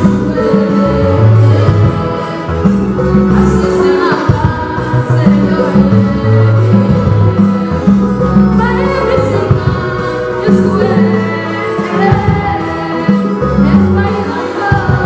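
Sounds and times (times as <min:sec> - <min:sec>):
low instrumental bass notes: 0:00.0 - 0:15.0
women's choir singing: 0:00.0 - 0:15.0.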